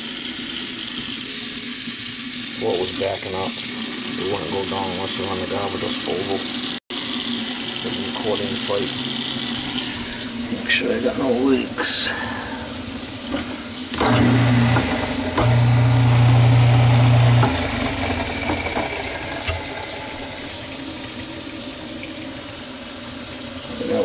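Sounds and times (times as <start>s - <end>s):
garbage disposal humming: 0.0s - 24.0s
water running down sink drain: 0.0s - 24.0s.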